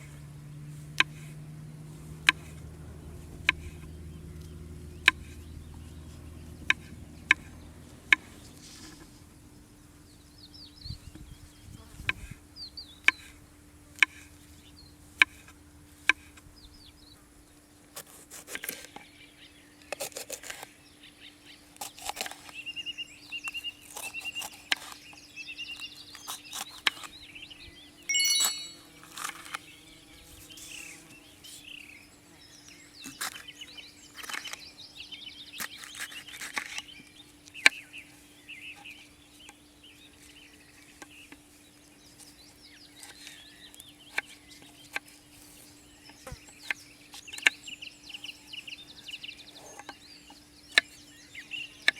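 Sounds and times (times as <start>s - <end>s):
small birds chirping: 2.2s - 13.4s, 18.5s - 29.0s, 29.6s - 51.9s.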